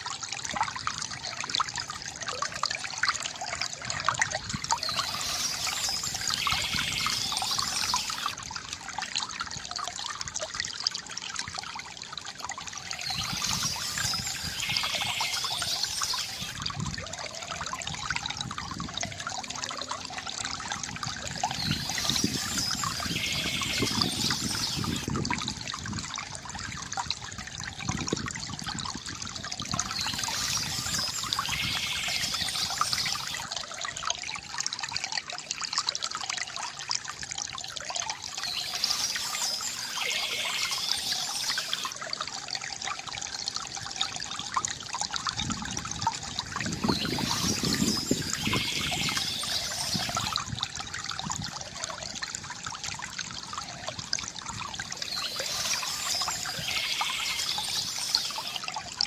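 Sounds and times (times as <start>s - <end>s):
fountain water trickling into basin: 0.0s - 59.0s.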